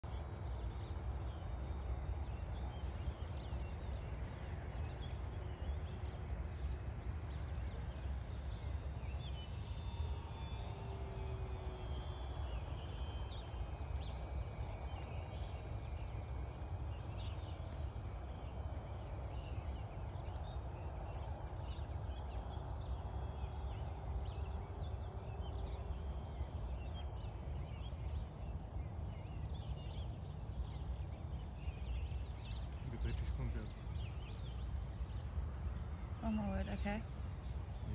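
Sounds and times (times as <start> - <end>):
wind rumble on microphone: 0.0 - 37.9.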